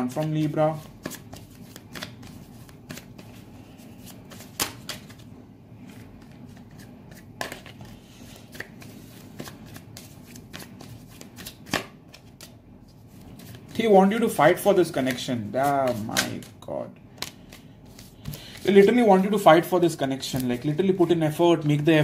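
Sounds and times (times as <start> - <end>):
cards being shuffled: 0.0 - 16.6, 17.2 - 22.0.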